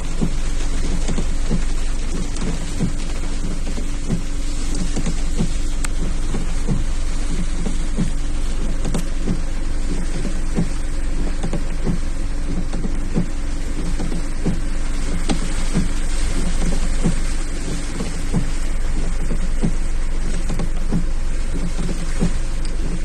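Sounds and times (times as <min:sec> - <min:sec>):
car engine hum: 0:00.0 - 0:23.0
heavy rain on car roof: 0:00.0 - 0:23.0.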